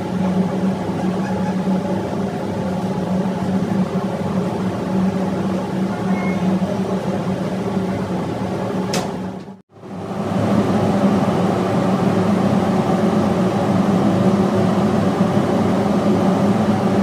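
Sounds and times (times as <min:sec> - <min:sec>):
diesel generator engine drone: 0:00.0 - 0:17.0.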